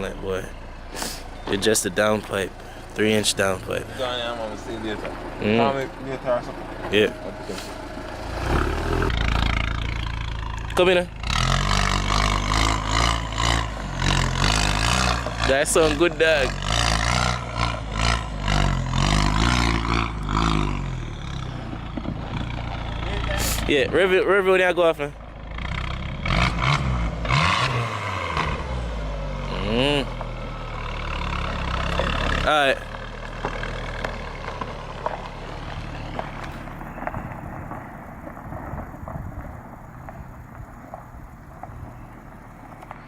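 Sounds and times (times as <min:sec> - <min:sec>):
car engine revving and idling: 0:00.0 - 0:43.0.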